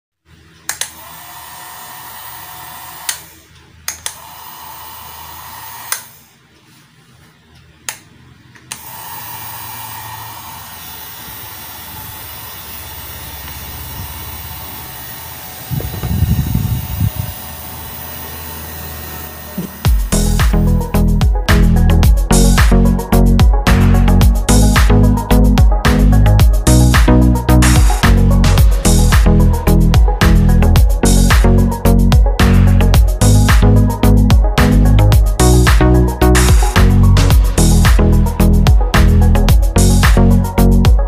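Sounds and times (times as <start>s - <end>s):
hair dryer fan motor: 0.7s - 6.4s, 8.7s - 40.2s.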